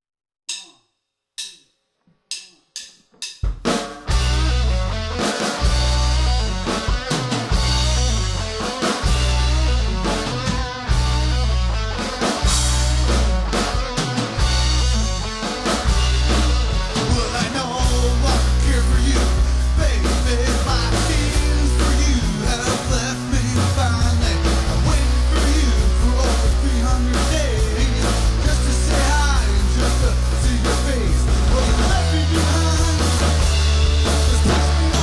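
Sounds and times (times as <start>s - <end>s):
rock song with electric guitars: 3.7s - 35.0s.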